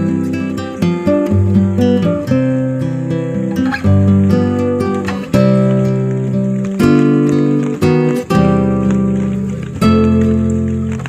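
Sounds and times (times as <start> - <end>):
acoustic guitar strummed and plucked: 0.0 - 11.0.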